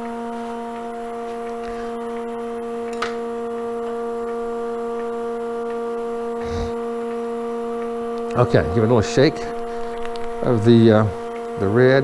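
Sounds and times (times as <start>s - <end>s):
electric machine hum: 0.0s - 12.0s.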